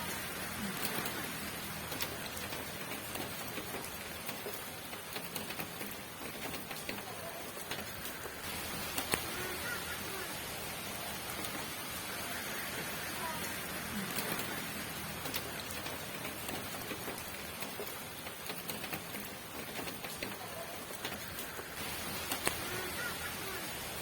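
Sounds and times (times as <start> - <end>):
rain falling: 0.0 - 24.0
raindrops ticking on a surface: 0.0 - 24.0.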